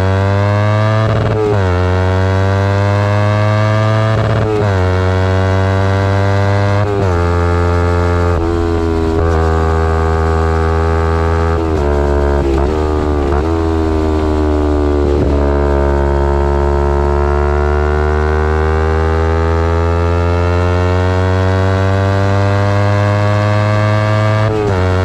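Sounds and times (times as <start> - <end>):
motorcycle engine running: 1.1 - 25.0.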